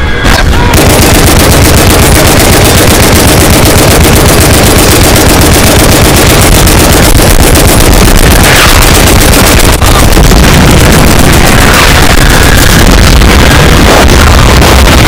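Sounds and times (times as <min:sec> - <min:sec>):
rapid automatic gunfire: 0:00.3 - 0:15.0.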